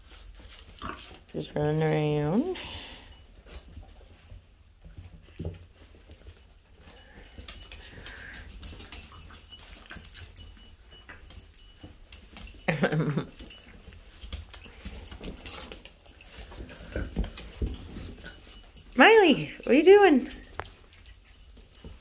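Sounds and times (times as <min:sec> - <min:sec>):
puppies scuffling on floor: 0:00.0 - 0:22.0.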